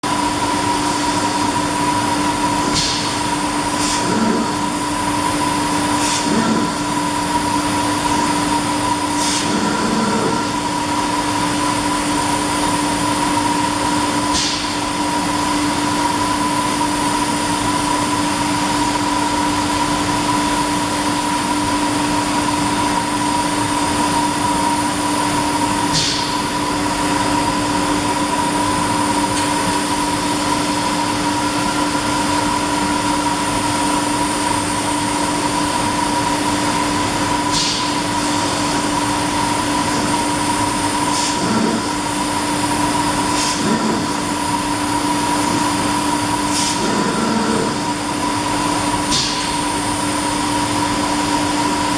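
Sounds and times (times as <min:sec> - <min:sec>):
laser cutting machine humming: 0:00.0 - 0:51.9.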